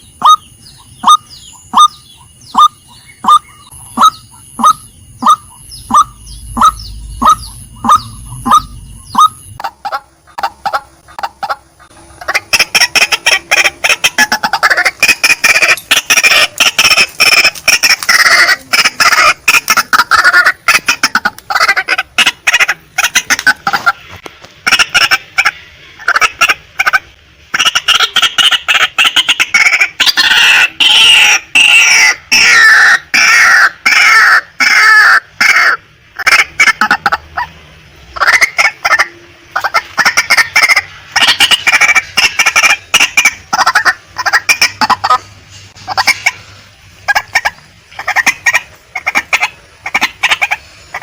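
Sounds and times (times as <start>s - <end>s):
waterhen calling: 0.0s - 51.0s.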